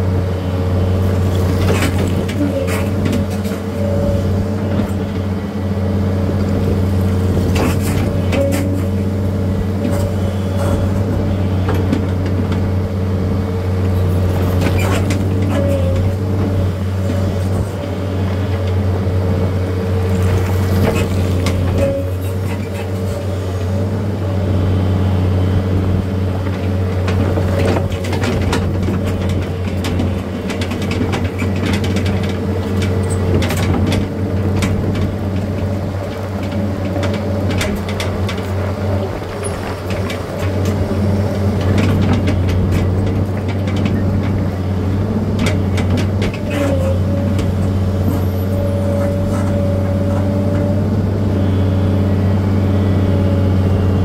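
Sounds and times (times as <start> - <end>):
machine engine humming: 0.0 - 54.0.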